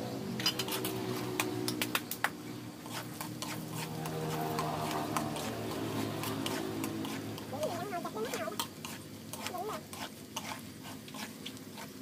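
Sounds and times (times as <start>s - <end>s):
garlic frying in hot oil: 0.0s - 12.0s
metal ladle scraping wok: 0.3s - 1.6s, 2.8s - 12.0s.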